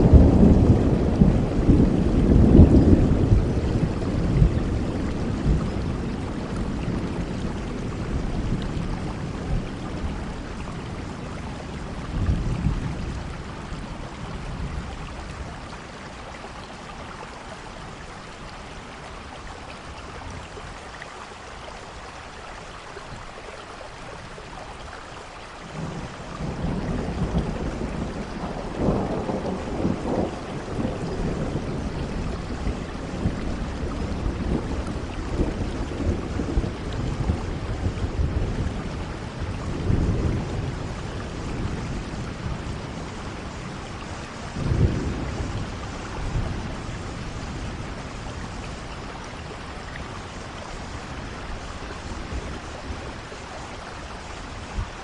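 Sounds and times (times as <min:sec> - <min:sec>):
thunder rumbling: 0:00.0 - 0:16.0, 0:25.7 - 0:55.0
steady rain: 0:00.0 - 0:55.0.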